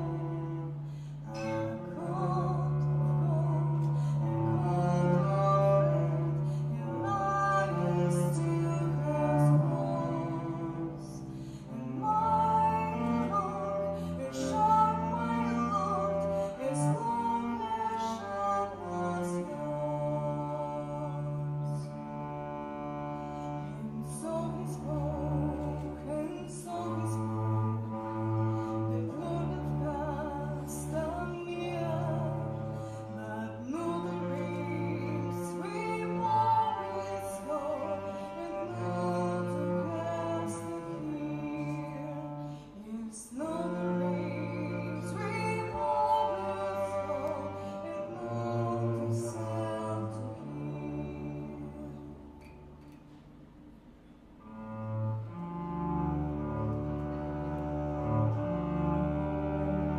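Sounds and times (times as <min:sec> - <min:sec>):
woman singing: 0:00.0 - 0:22.0, 0:22.9 - 0:52.5
cellos playing: 0:00.0 - 0:59.9.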